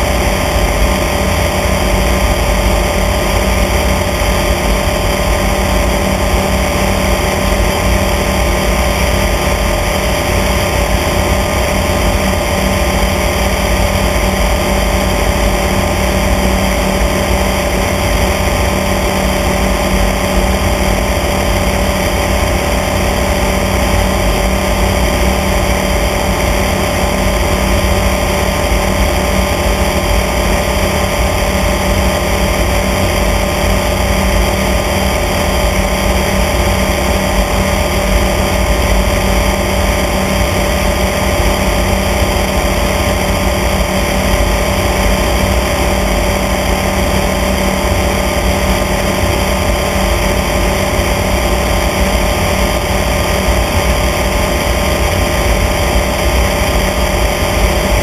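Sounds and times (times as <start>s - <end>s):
propeller airplane engine droning: 0.0s - 58.0s.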